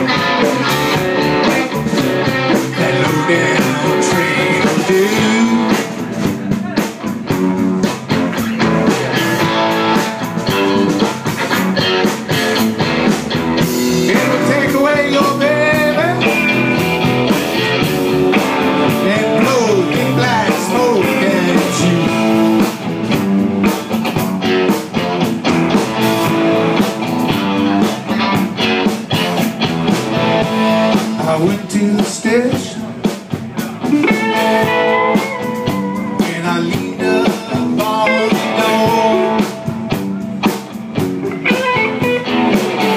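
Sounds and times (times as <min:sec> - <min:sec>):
lead guitar bending notes: 0:00.0 - 0:31.8, 0:32.6 - 0:42.9
blues band playing: 0:00.0 - 0:42.9.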